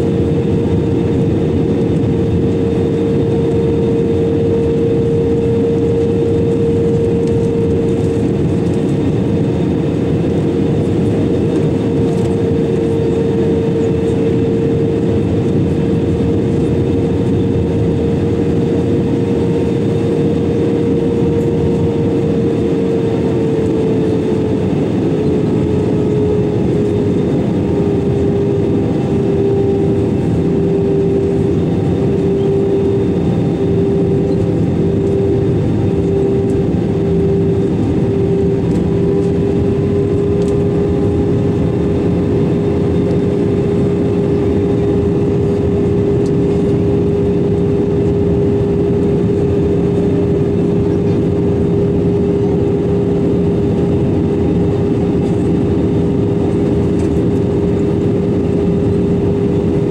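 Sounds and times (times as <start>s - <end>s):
airplane cabin airflow and engine noise: 0.0s - 59.9s
steady engine tone: 0.0s - 59.9s.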